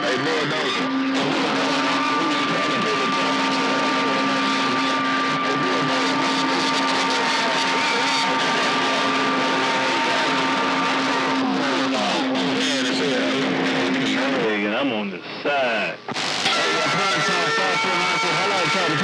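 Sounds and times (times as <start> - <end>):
distorted radio voices: 0.0 - 19.0
radio static: 0.0 - 19.0.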